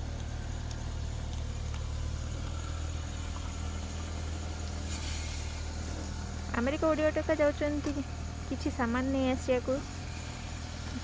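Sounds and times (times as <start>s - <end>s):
car engine hum inside cabin: 0.0s - 11.0s.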